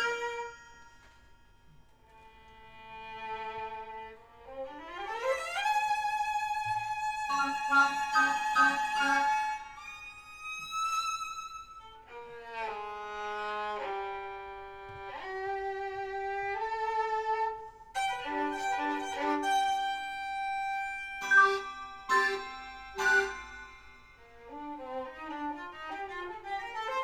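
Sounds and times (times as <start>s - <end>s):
violin playing sliding notes: 0.0s - 1.1s, 2.3s - 27.0s.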